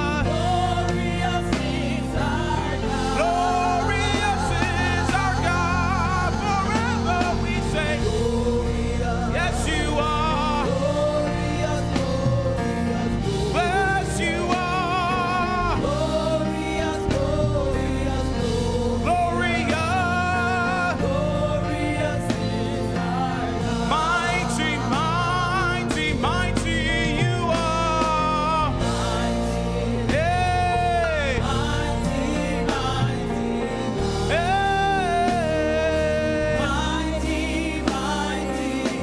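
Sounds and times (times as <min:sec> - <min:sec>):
gospel band with heavy bass: 0:00.0 - 0:39.0.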